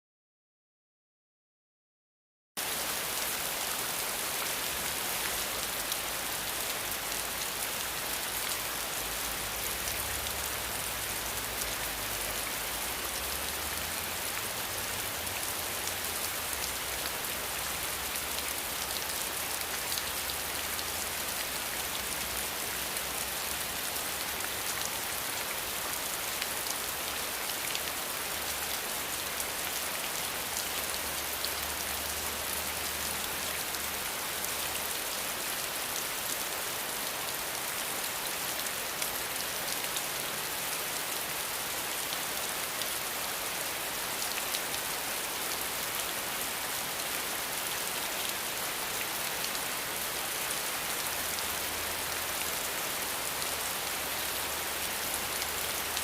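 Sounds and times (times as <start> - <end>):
steady rain falling: 2.6 - 56.0.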